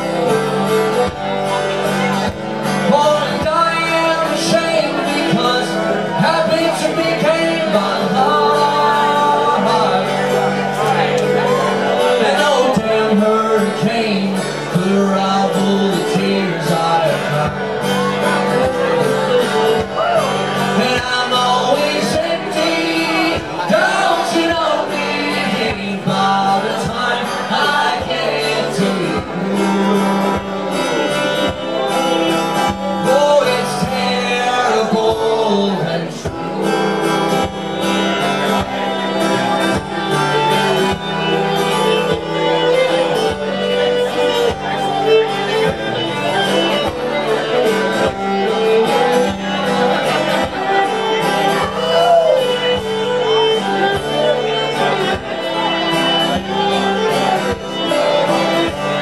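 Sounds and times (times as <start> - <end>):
bowed fiddle: 0.0 - 59.0
man singing: 0.0 - 59.0
strummed acoustic guitar: 0.0 - 59.0.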